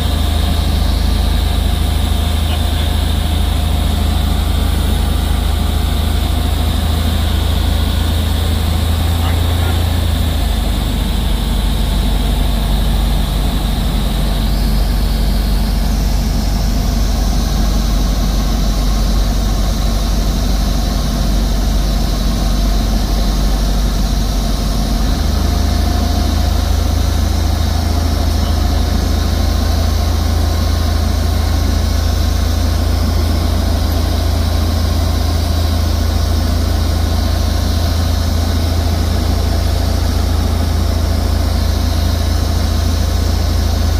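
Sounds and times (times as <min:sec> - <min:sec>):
air noise: 0:00.0 - 0:43.9
airplane engine droning in cabin: 0:00.0 - 0:43.9.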